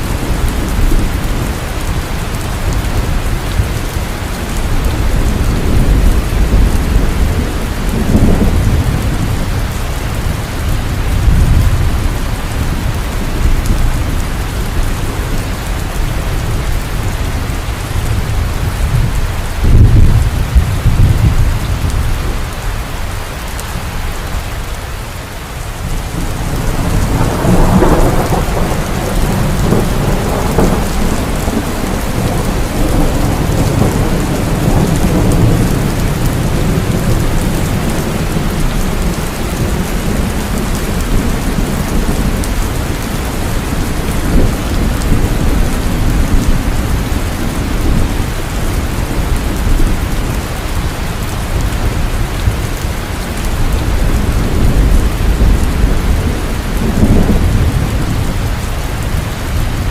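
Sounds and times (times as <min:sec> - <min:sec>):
rolling thunder: 0:00.0 - 0:22.6, 0:25.8 - 0:59.9
heavy rain falling: 0:00.0 - 0:59.9.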